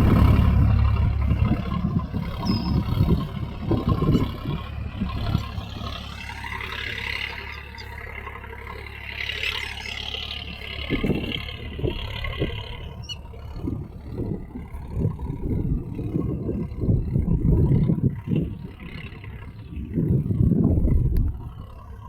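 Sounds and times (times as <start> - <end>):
engine whine: 0.0 - 22.0
low buffeting: 0.0 - 22.0
tractor diesel engine running: 0.0 - 22.0.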